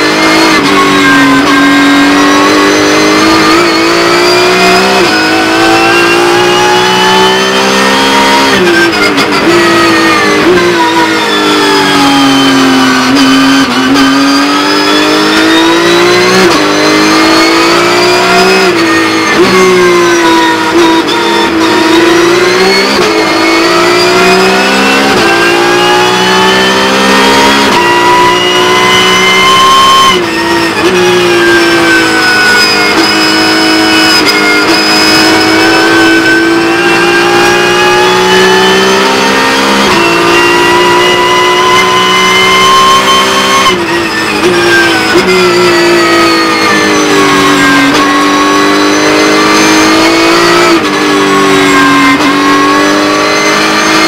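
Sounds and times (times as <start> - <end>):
racing engine revving: 0.0 - 54.0.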